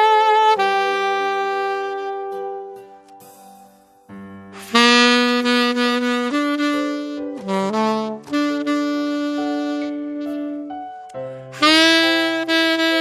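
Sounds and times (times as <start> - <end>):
saxophone playing slow melody: 0.0 - 3.4, 4.6 - 13.0
backing track: 0.0 - 13.0.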